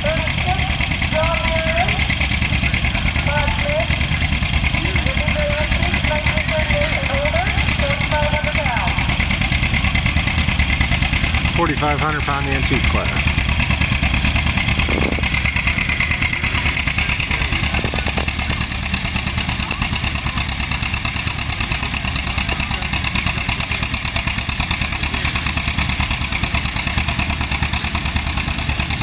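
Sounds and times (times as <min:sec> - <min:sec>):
tractor engine running hard: 0:00.0 - 0:29.0.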